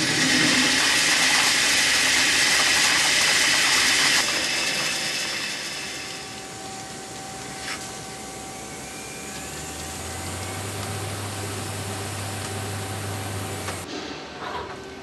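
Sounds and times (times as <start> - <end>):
lathe machining metal with whine: 0.0 - 13.9.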